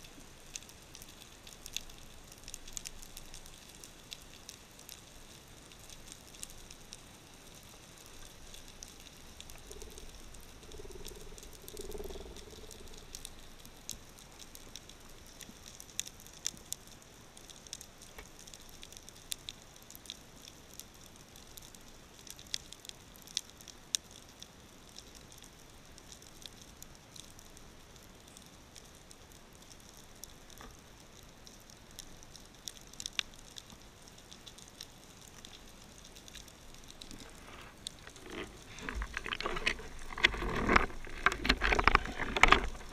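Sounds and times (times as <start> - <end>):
sharp clicks and crackles: 0.0 - 27.5, 28.2 - 42.9.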